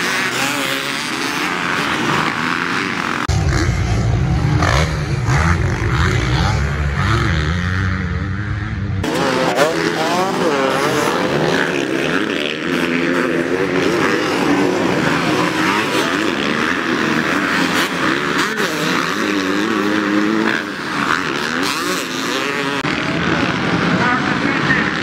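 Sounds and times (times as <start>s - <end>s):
racing engines revving: 0.0s - 25.0s.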